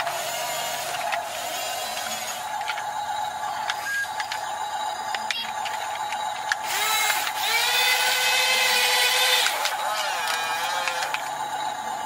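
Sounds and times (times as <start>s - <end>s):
toy electric motors whining: 0.0s - 12.0s.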